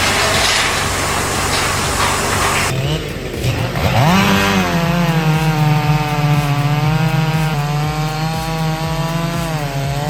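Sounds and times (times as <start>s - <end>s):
chainsaw cutting log: 0.0s - 10.0s.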